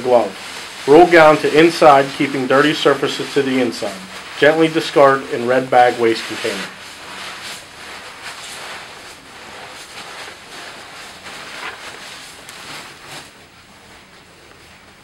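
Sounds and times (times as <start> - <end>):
plastic gown rustling and crinkling: 0.0 - 15.0.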